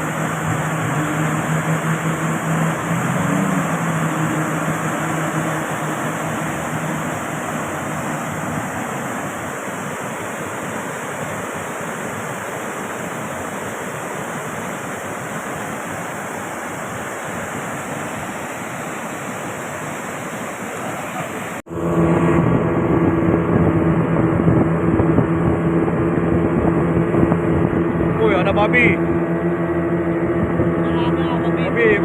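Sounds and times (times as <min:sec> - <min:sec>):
rushing wind: 0:00.0 - 0:32.0
vehicle road noise: 0:00.0 - 0:32.0.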